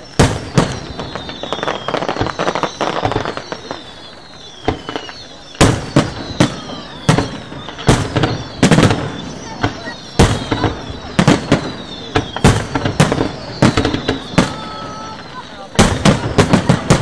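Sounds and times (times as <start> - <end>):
falling firework whistles: 0.0 - 17.0
fireworks crackling: 0.0 - 17.0.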